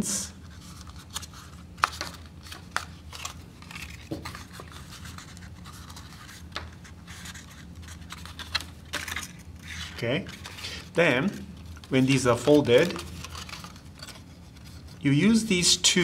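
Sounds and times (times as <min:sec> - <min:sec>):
cardstock creasing and rustling: 0:00.4 - 0:15.4.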